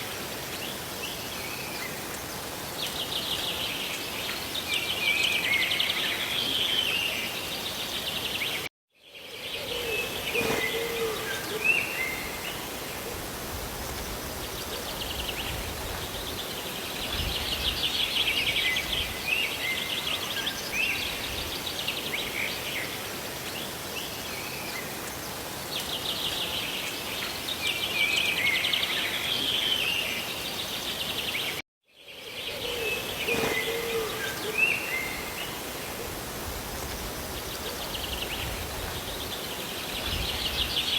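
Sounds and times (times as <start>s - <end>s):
rain and falling water: 0.0s - 8.7s, 10.1s - 31.6s, 33.1s - 40.9s.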